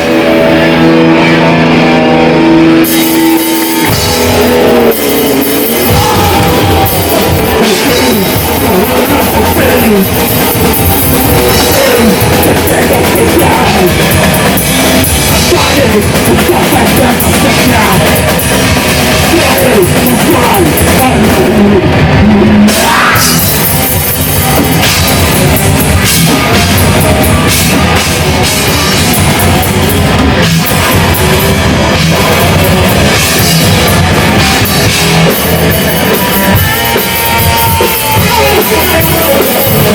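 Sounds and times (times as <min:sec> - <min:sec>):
distorted guitars and bass: 0:00.0 - 0:39.9
fast dense drumming: 0:02.7 - 0:39.9.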